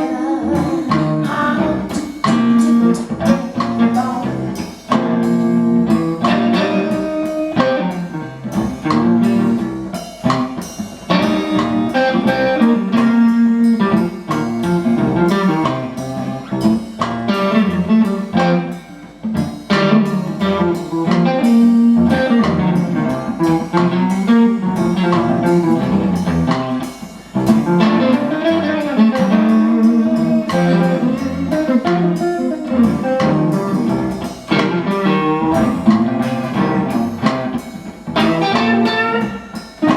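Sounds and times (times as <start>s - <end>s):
blues band instrumental: 0.0s - 39.9s.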